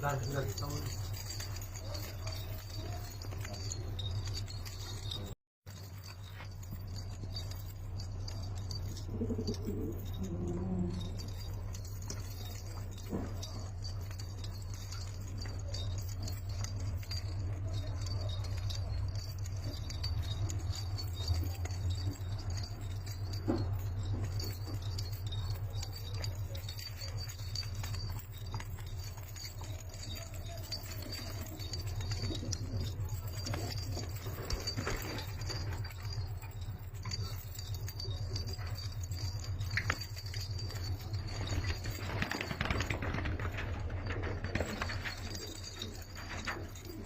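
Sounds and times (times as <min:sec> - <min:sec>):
pigeons cooing: 0:08.2 - 0:40.0, 0:40.6 - 0:47.0.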